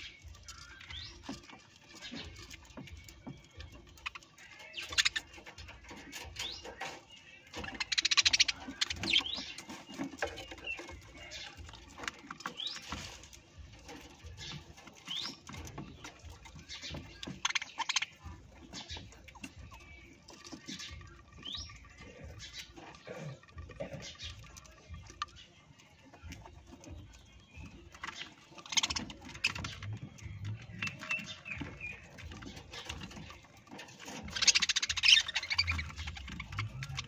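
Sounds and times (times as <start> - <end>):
parrots chirping: 0.0 - 13.1, 13.8 - 26.0, 27.0 - 37.0
scratching and tapping: 0.0 - 37.0.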